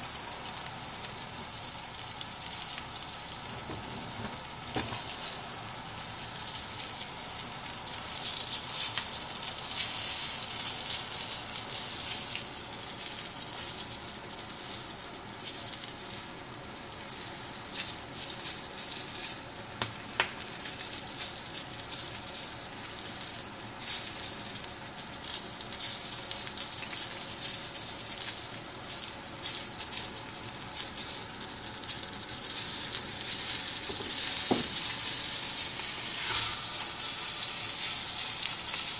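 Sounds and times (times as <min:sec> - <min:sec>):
steak sizzling in skillet: 0:00.0 - 0:38.9.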